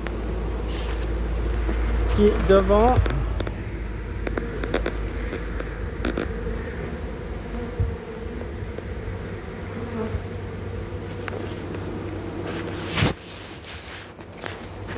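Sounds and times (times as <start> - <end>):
bees buzzing: 0.0 - 14.9.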